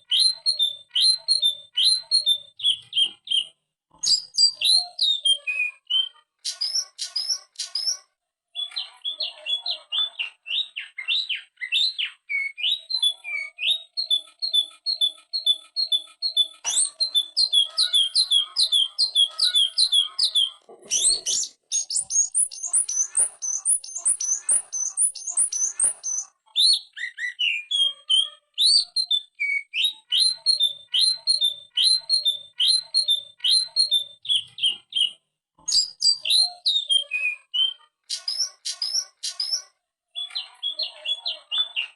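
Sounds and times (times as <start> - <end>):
bird whistled chirps: 0.0 - 40.9.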